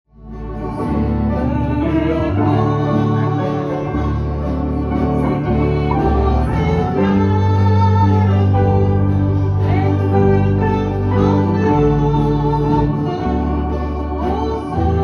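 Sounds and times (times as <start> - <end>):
acoustic and electric guitars: 0.1 - 15.0
steady bass line: 0.1 - 15.0
accordion chords: 0.2 - 15.0.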